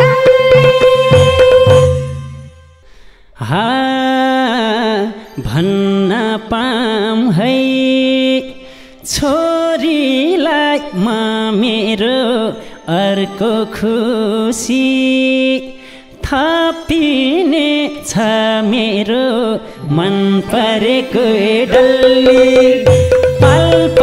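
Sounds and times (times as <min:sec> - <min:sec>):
man singing into a microphone: 0:03.4 - 0:24.0.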